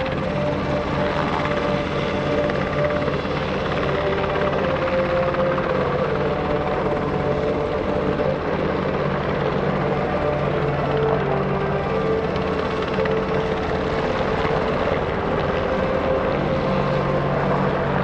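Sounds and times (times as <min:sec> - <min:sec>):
engine whine: 0:00.0 - 0:18.0
helicopter hovering: 0:00.0 - 0:18.0.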